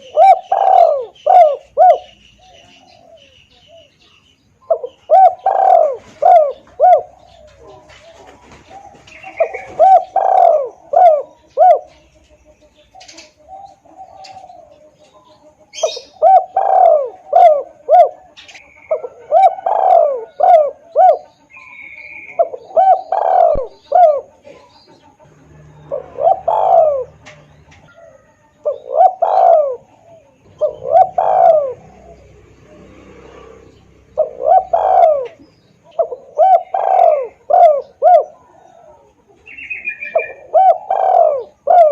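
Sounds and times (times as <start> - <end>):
dove cooing: 0.0 - 4.0, 4.6 - 41.9.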